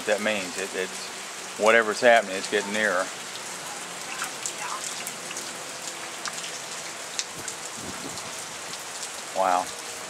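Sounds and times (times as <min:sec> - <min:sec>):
steady rain pattering: 0:00.0 - 0:10.0.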